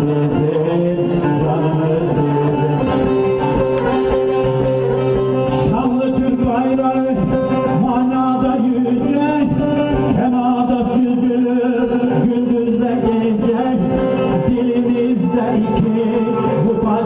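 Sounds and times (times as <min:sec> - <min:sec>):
plucked long-necked lute melody: 0:00.0 - 0:17.0.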